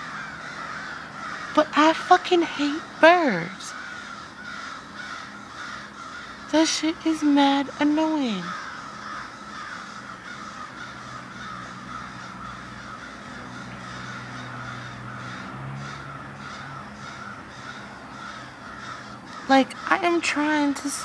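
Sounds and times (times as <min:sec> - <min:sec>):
birds chorus: 0:00.0 - 0:21.0
steady low hum: 0:00.0 - 0:21.0.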